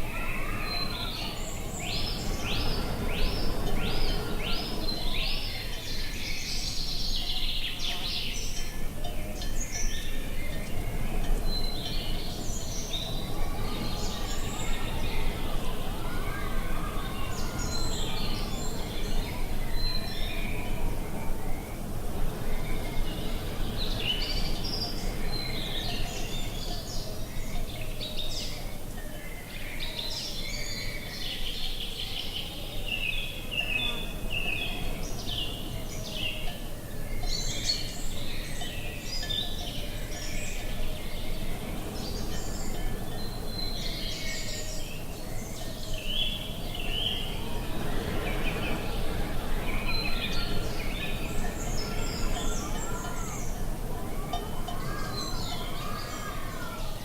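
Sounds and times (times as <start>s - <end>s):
low wind rumble: 0.0s - 57.0s
songbirds chirping and trilling: 0.0s - 57.0s.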